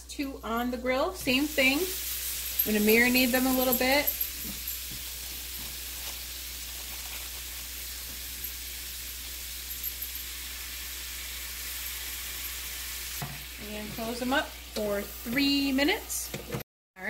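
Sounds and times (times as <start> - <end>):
kebabs sizzling on electric grill: 0.7 - 16.6.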